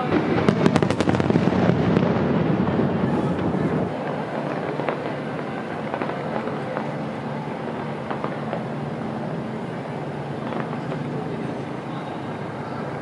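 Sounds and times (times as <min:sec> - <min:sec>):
faint firework pops and crackles: 0:00.0 - 0:13.0.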